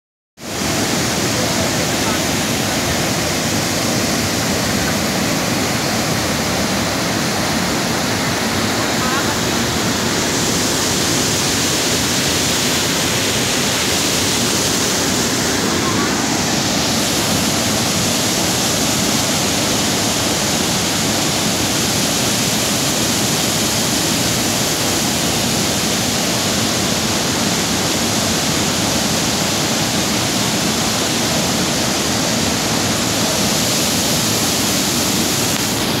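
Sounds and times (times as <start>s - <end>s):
waterfall and rushing river: 0.4s - 36.0s.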